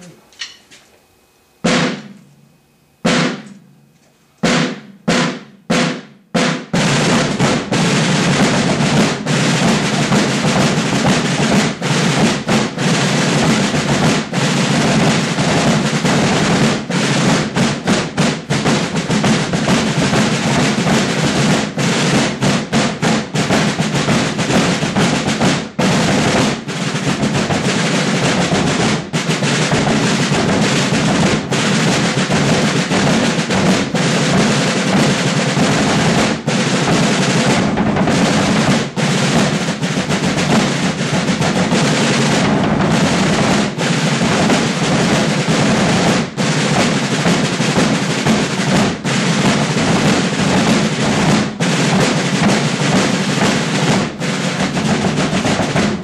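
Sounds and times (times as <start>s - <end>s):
snare and bass drums playing: 0.0s - 0.5s, 1.6s - 2.4s, 3.0s - 56.0s.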